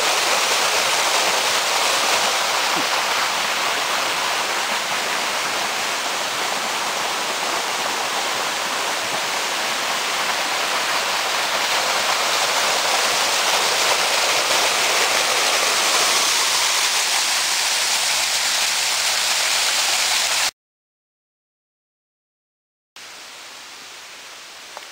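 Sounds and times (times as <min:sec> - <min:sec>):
waterfall pouring: 0:00.0 - 0:20.5.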